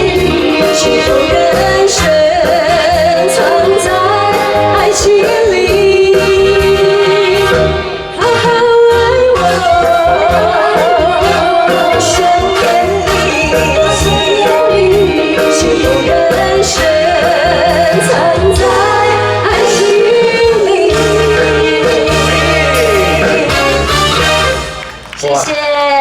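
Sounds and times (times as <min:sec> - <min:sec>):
woman singing with vibrato: 0:00.0 - 0:24.0
backing band with drums: 0:00.0 - 0:25.3.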